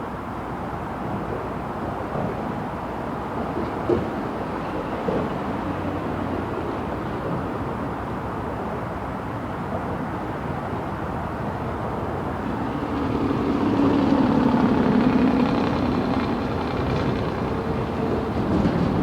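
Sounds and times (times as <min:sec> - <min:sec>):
diesel train rumbling past: 0:00.0 - 0:19.0.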